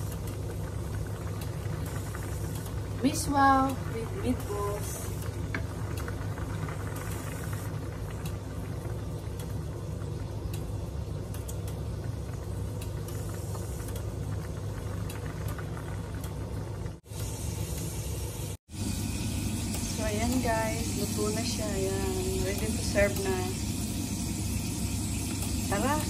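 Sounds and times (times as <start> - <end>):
kitchen appliance humming: 0.0 - 26.0.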